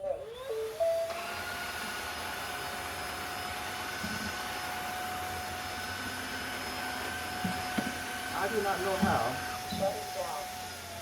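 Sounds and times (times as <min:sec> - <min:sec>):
vacuum cleaner motor whining: 0:00.0 - 0:11.0.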